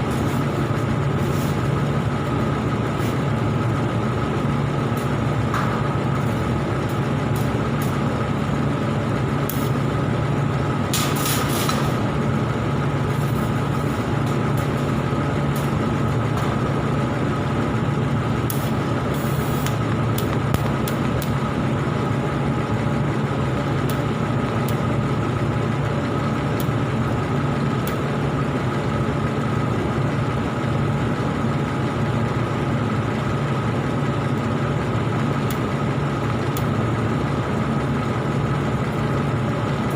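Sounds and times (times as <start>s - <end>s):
welding equipment buzzing hum: 0.0s - 39.9s.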